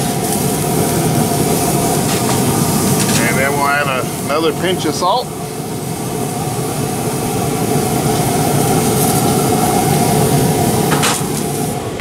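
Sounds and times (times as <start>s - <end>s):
steak sizzling on a grill: 0.0s - 11.8s
grill fan running: 0.0s - 12.0s.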